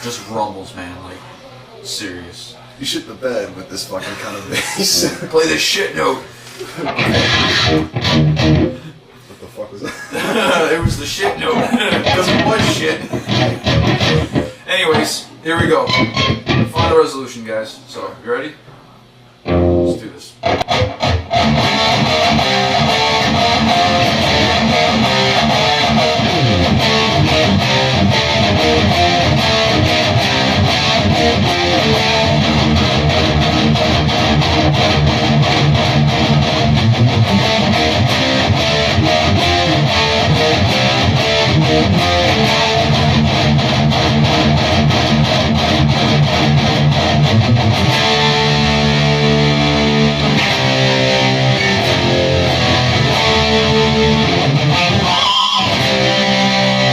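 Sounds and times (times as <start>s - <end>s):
distorted electric guitars: 6.0s - 9.1s, 10.2s - 17.1s, 19.4s - 56.9s.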